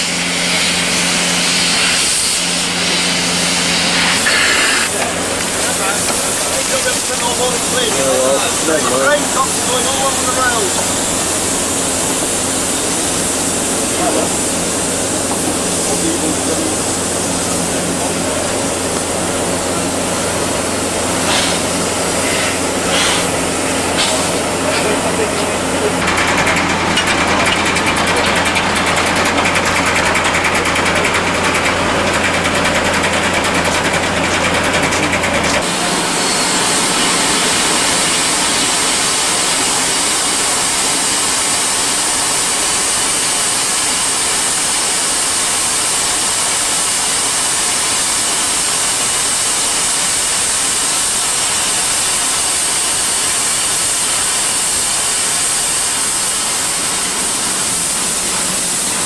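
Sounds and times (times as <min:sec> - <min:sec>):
steam hissing from locomotive: 0:00.0 - 0:59.0.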